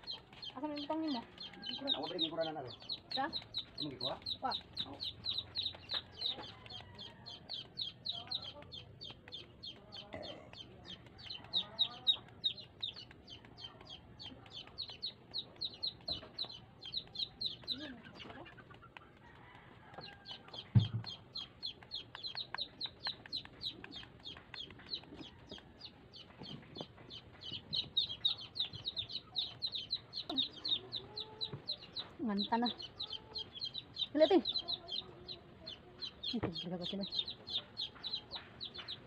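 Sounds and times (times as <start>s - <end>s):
chickens calling: 0.0s - 39.0s.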